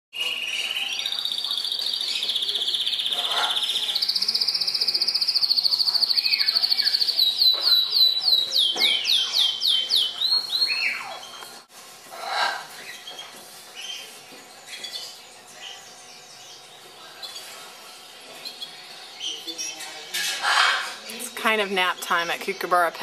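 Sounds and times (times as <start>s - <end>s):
canary singing trills: 0.2s - 23.0s.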